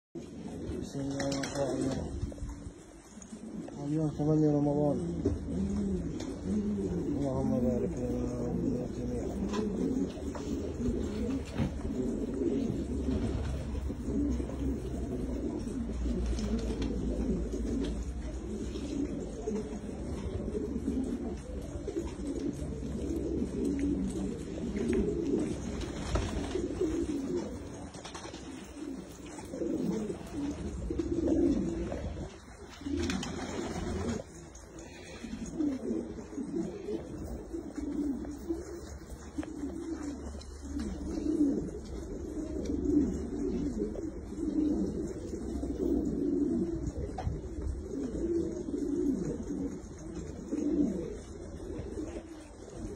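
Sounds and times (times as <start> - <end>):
pigeons cooing: 0.2 - 52.9.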